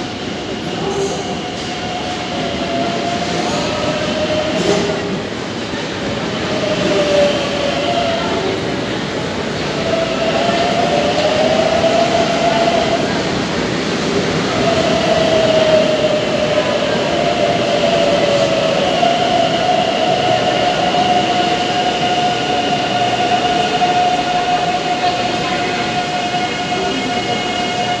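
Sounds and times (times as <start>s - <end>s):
electric train whine: 0.0s - 28.0s
train wheels rumbling on rail: 0.0s - 28.0s.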